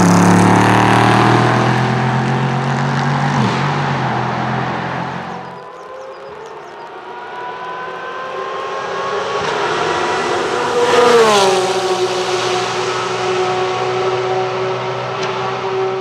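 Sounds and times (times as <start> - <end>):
race car engine passing: 0.0 - 16.0.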